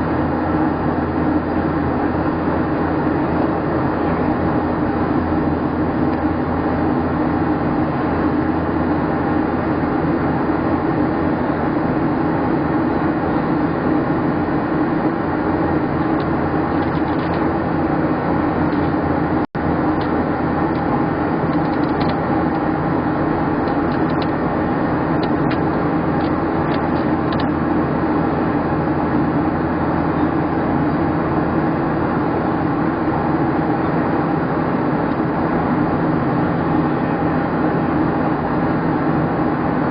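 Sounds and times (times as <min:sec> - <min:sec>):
jet engines roaring: 0:00.0 - 0:39.9
steady cabin hum: 0:00.0 - 0:39.9.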